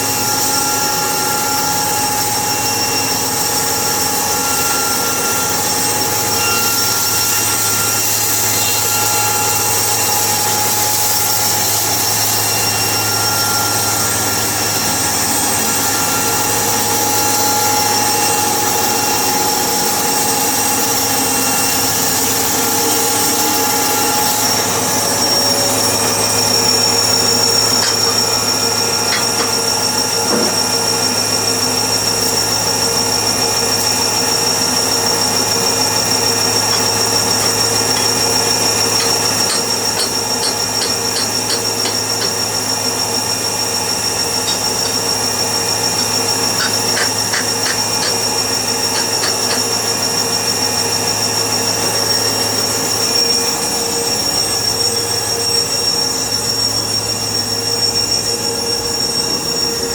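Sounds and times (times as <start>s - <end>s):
power tool humming and whining: 0.0s - 59.9s.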